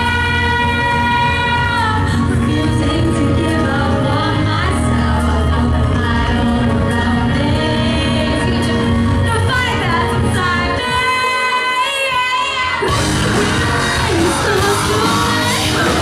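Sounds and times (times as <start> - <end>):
drums: 0.0 - 16.0
post-hardcore band playing live: 0.0 - 16.0
sung vocals: 0.0 - 16.0.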